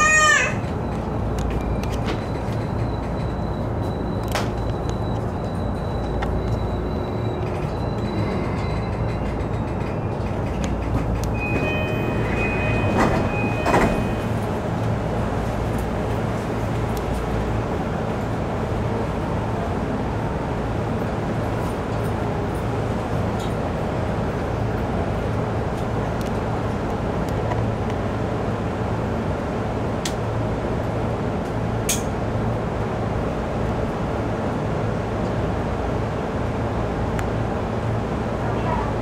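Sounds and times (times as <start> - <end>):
train rumble with low hum: 0.0 - 39.0.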